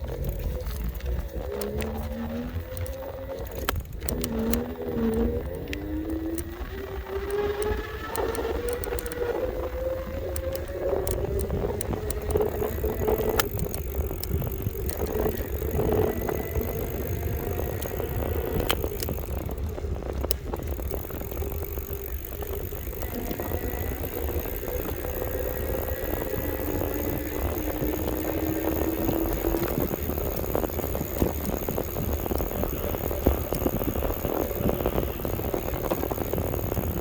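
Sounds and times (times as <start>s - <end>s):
clicks and rattles: 0.0s - 37.0s
electric bike motor whining: 0.0s - 37.0s
wind on microphone: 0.0s - 37.0s.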